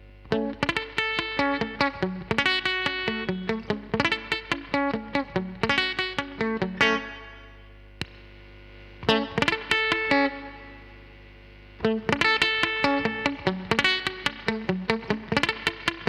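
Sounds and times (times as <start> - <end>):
electric guitar picking: 0.0 - 16.0.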